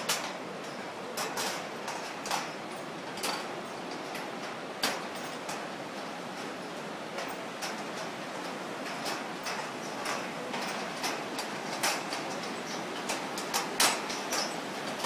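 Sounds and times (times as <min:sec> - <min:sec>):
footsteps on footbridge deck: 0:00.0 - 0:15.0
river rushing: 0:00.0 - 0:15.0.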